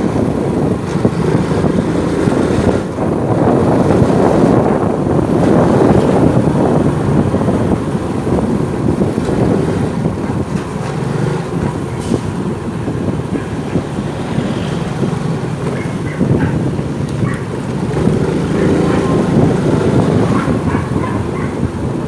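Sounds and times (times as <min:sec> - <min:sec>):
motorcycle engine rumble: 0:00.0 - 0:22.0
wind buffeting microphone: 0:00.0 - 0:22.0.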